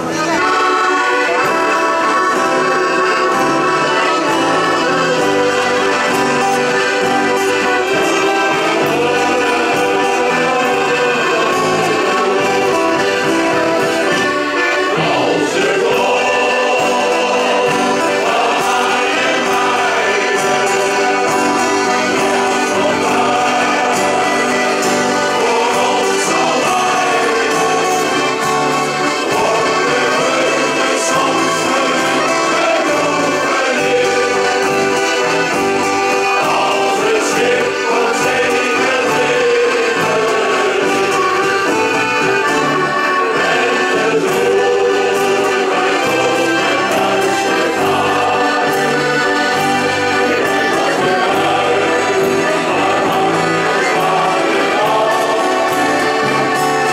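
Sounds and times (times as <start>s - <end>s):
accordion: 0.0s - 56.9s
choir singing: 0.0s - 56.9s.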